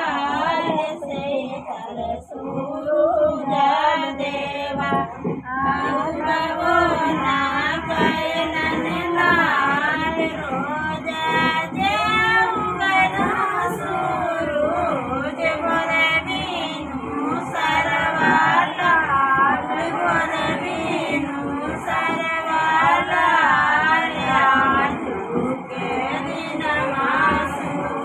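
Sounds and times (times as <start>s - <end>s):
women singing: 0.0s - 28.0s.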